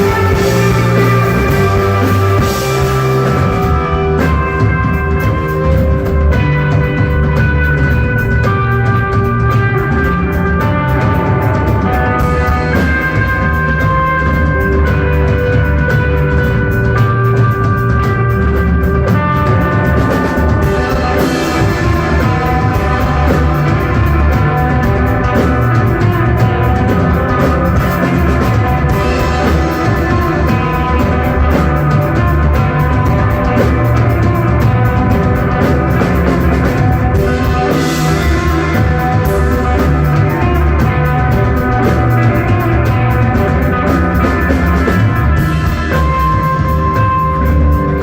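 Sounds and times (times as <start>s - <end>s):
drum kit: 0.0s - 48.0s
electric guitar: 0.0s - 48.0s.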